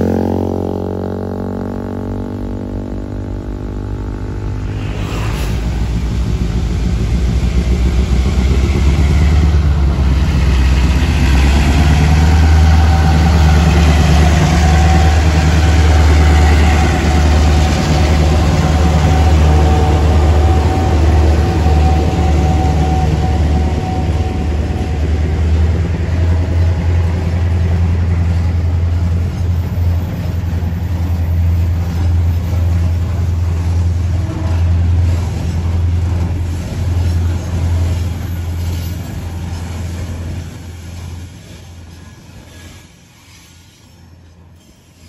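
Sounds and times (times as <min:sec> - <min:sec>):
diesel locomotive engines droning: 0:00.0 - 0:45.0
wagons rumbling on track: 0:03.8 - 0:43.0.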